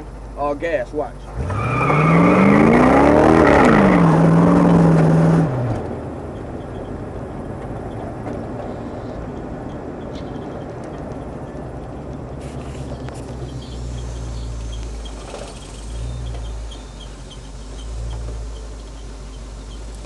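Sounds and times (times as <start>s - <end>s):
car engine rumbling and revving: 0.0s - 20.0s.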